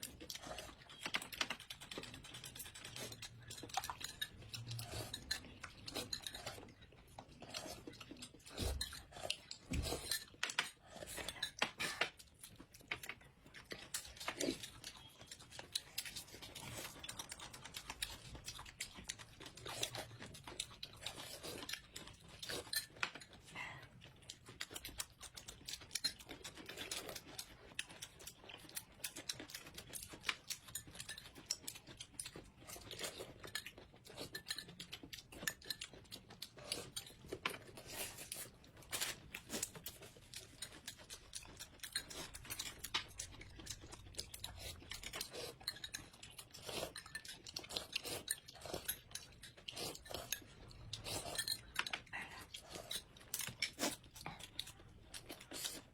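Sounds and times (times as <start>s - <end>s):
chewing and crunching: 0.0s - 55.9s.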